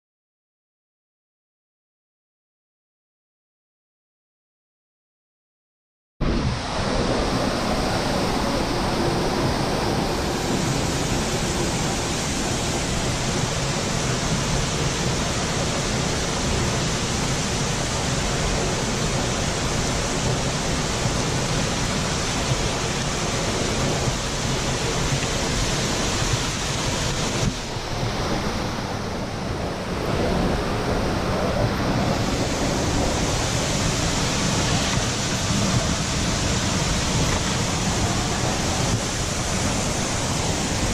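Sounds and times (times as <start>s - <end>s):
waterfall pouring and splashing: 6.2s - 40.9s.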